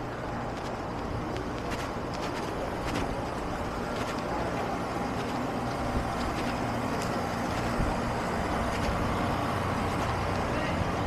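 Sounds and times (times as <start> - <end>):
city street rumble and hiss: 0.0 - 11.0
faint footsteps on paving: 0.0 - 11.0.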